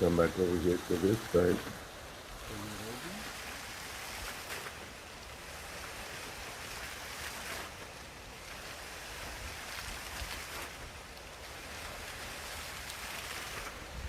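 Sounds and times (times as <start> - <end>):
rushing surf-like water hiss: 0.0 - 14.0.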